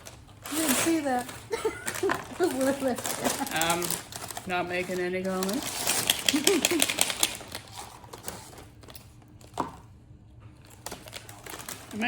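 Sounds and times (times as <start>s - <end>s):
food packet crinkling: 0.0s - 9.6s, 10.6s - 12.0s.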